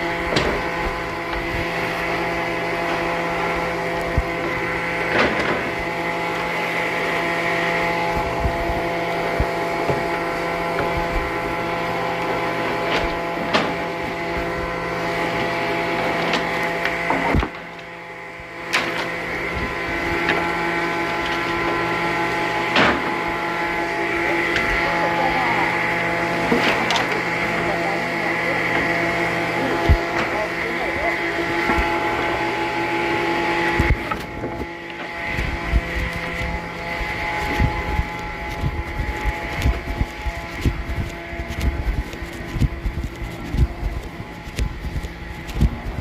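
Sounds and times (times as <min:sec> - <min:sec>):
circular saw motor whining: 0:00.0 - 0:46.0.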